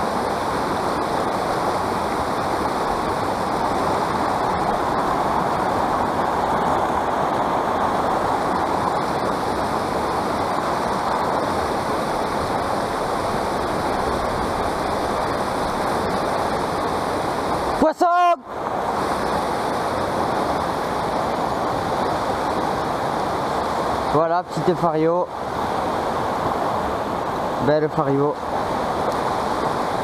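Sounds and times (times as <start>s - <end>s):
river flowing over gravel: 0.0s - 30.0s.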